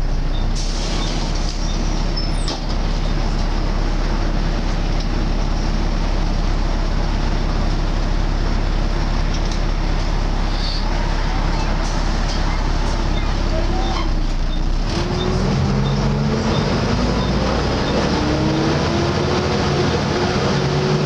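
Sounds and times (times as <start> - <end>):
bus engine drone with whine: 0.0 - 21.0.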